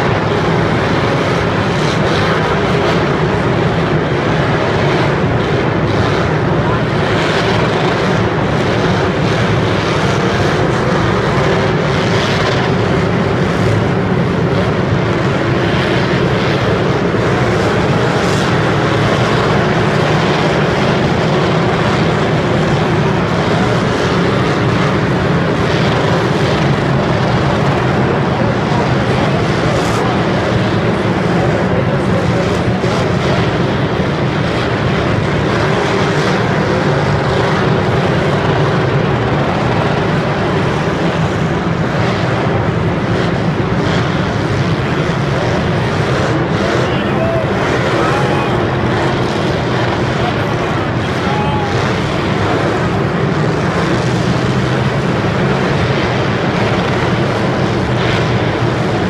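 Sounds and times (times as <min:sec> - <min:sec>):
many car engines revving: 0:00.0 - 0:59.0.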